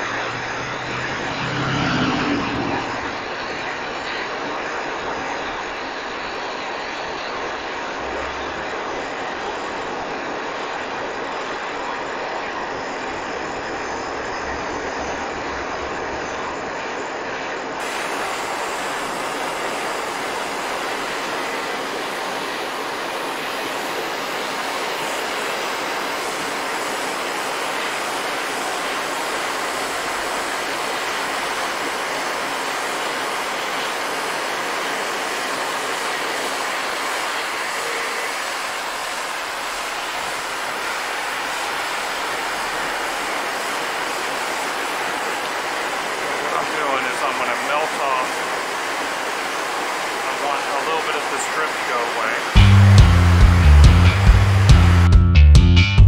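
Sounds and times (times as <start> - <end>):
gas torch flame hissing: 0.0 - 53.6.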